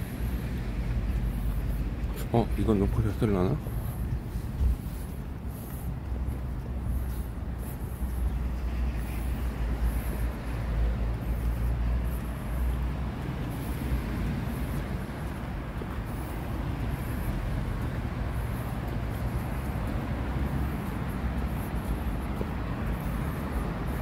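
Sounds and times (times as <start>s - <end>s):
vehicle and road rumble: 0.0s - 24.0s.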